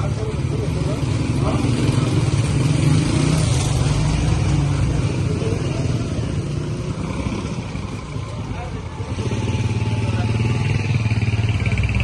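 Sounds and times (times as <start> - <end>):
chatter of passers-by: 0.0 - 12.0.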